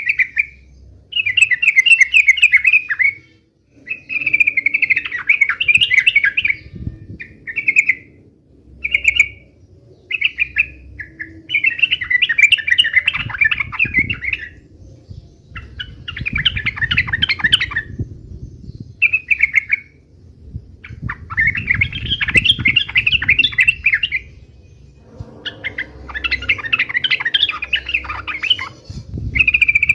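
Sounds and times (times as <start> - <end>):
bird chattering song: 0.0 - 29.9.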